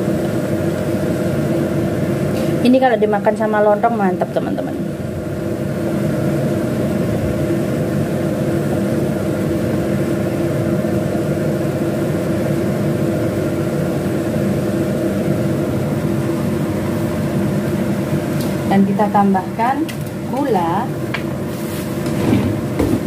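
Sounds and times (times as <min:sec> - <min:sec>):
machine humming with low tones: 0:00.0 - 0:23.0.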